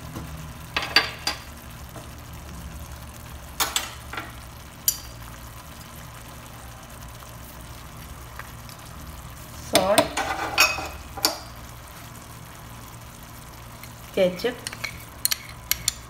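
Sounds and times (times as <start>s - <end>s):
sauce bubbling in a frying pan: 0.0s - 16.0s.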